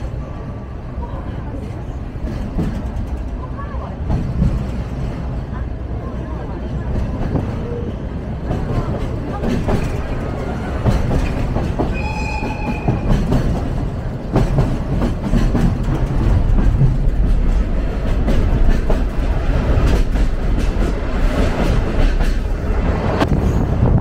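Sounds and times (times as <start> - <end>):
train rumbling along track: 0.0 - 24.0.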